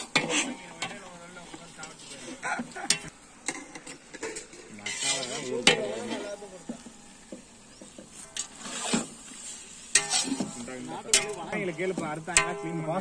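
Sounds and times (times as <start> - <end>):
metal ladle scraping a pot: 0.0 - 12.9.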